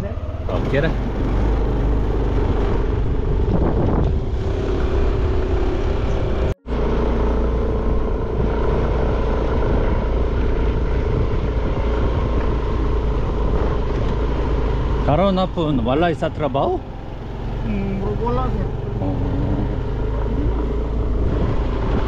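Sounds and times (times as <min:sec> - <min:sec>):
motor scooter engine running: 0:00.0 - 0:22.0.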